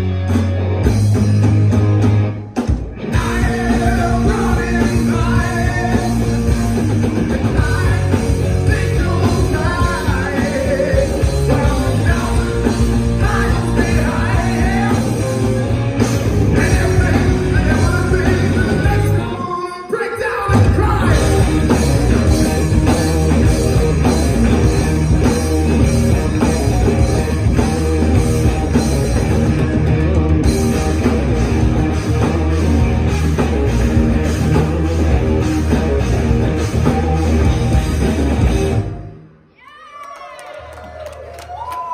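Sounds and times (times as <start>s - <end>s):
rock band playing: 0.0s - 39.6s.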